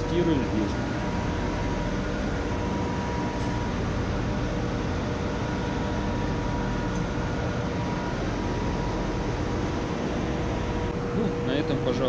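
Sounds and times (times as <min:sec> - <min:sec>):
engine room machinery hum: 0:00.0 - 0:12.0.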